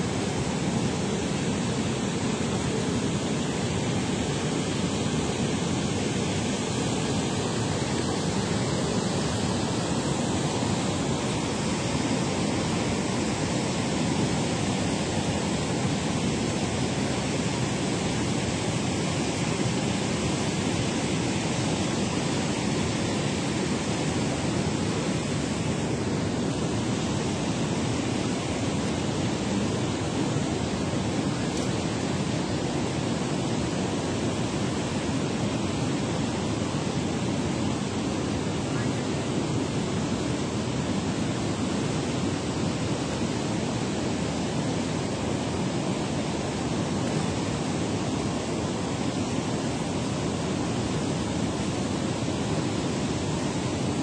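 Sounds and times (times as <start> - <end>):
water rushing through spillway: 0.0 - 54.0.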